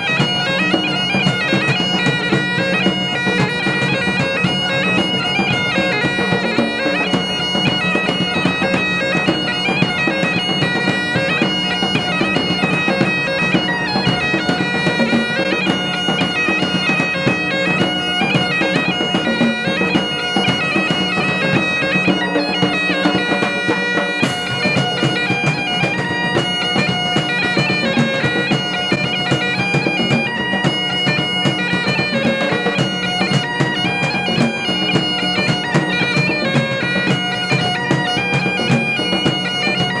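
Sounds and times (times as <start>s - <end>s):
bagpipes playing a tune: 0.0s - 40.0s
drums beating: 0.0s - 40.0s.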